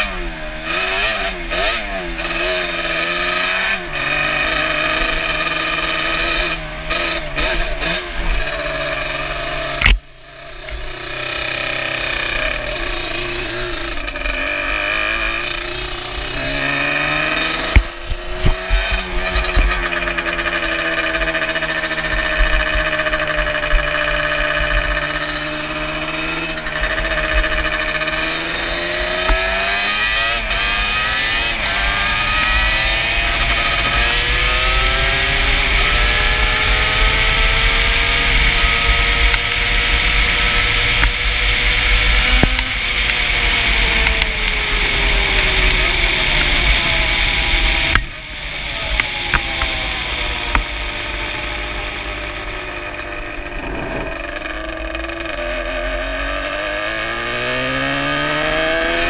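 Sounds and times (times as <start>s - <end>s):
rushing wind: 0.0s - 55.6s
two-stroke engine running hard: 0.0s - 59.0s.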